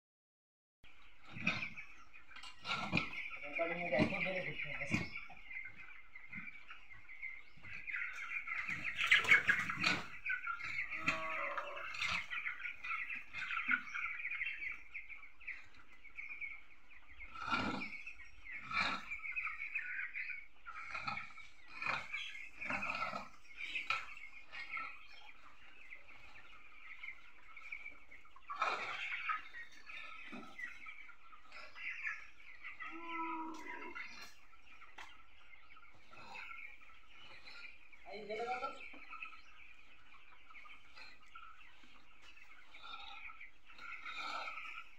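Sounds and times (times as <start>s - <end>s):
chicks peeping: 0.8s - 44.9s.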